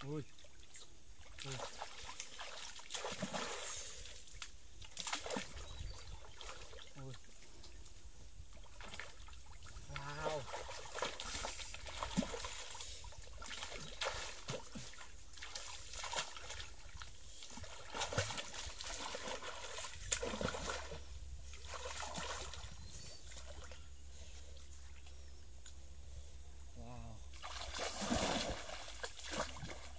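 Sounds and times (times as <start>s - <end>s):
water splashing: 0.4s - 7.4s, 8.5s - 23.8s, 27.3s - 29.9s.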